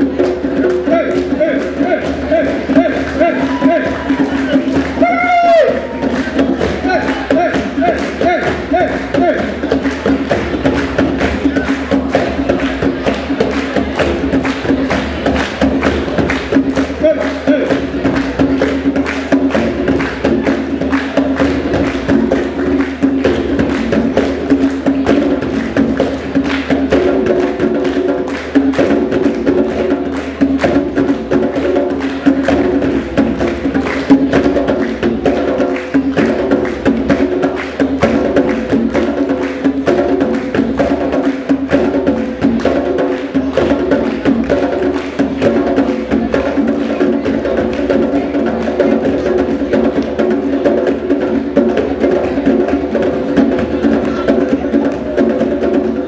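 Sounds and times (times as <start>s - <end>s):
hand drums playing fast rhythm: 0.0s - 56.0s.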